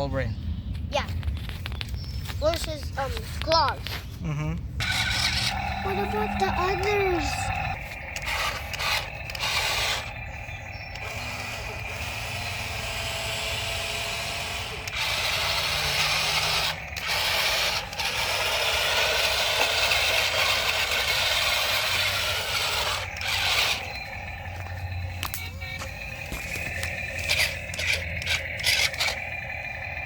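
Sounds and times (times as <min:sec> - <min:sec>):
toy gear motors whirring: 0:04.8 - 0:30.0.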